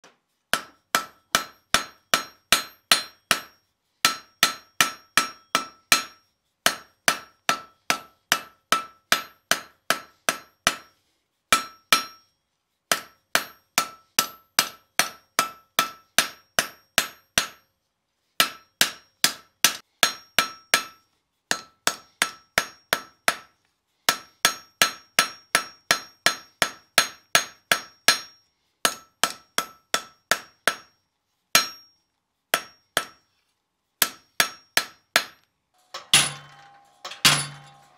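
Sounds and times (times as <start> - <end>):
hammer striking hot steel on anvil: 0.0 - 10.9, 11.5 - 12.3, 12.9 - 17.7, 18.4 - 23.5, 24.1 - 33.3, 34.0 - 37.9.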